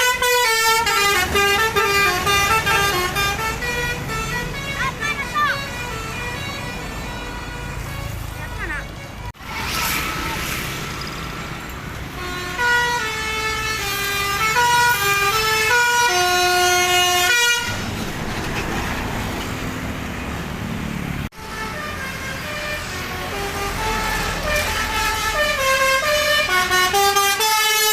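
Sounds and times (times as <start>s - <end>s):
multi-tone bus horn melody: 0.0s - 9.4s, 11.2s - 17.9s, 21.3s - 27.9s
street noise: 0.0s - 27.9s.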